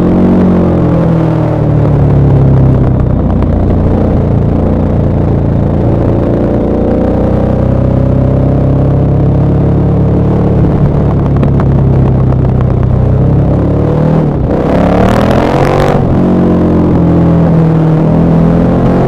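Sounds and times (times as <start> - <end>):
exhaust crackling: 0.0 - 19.0
motorcycle engine revving: 0.0 - 19.0.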